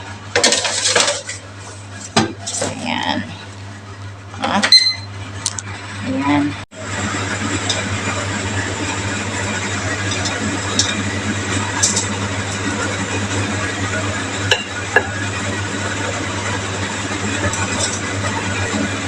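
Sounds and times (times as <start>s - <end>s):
oven low hum: 0.0s - 19.0s.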